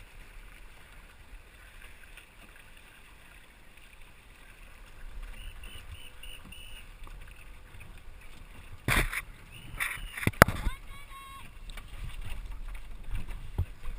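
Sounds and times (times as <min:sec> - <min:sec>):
water and wind rumble: 0:00.0 - 0:13.9.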